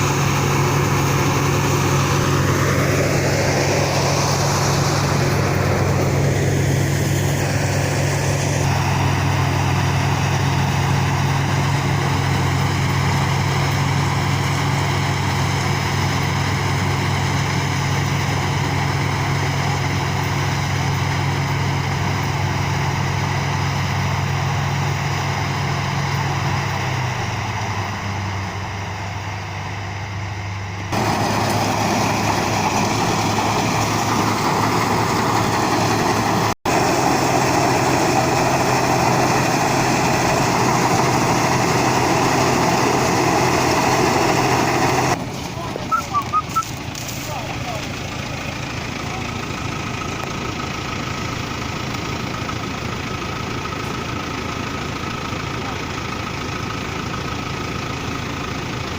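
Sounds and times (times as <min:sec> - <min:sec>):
harvester engine humming: 0:00.0 - 0:58.9.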